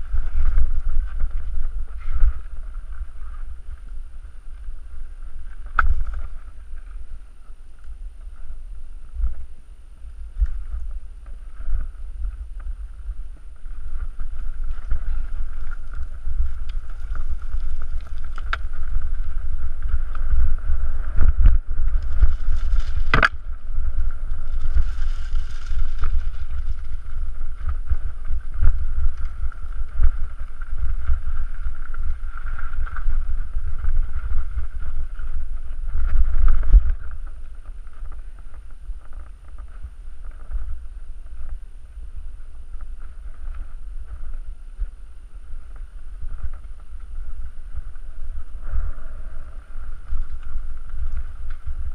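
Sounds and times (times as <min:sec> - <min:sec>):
wind rumble on microphone: 0:00.0 - 0:51.9.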